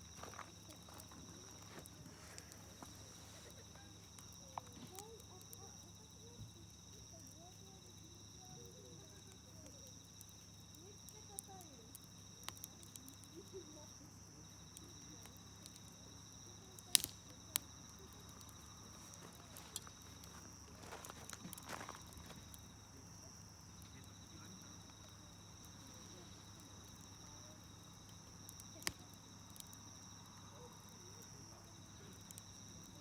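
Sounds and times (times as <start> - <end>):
campfire crackling: 0.0 - 33.0
faint distant voices: 0.0 - 33.0
fire popping: 0.0 - 33.0
insect trilling: 0.0 - 33.0.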